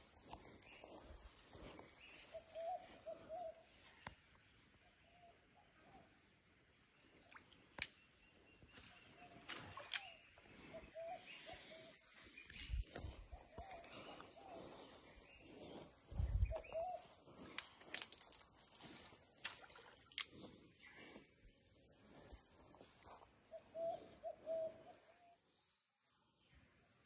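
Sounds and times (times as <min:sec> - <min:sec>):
bird calling low wavering notes: 0:00.0 - 0:17.6, 0:19.6 - 0:25.4.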